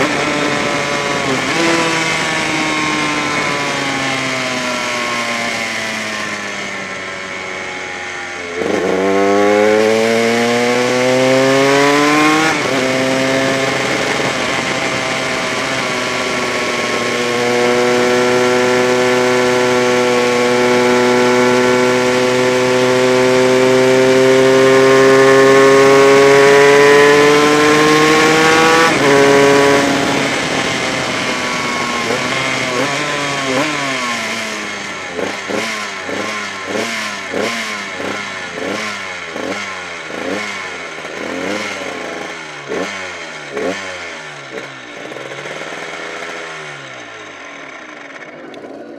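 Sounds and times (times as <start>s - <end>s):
two-stroke racing engine: 0.0s - 48.9s.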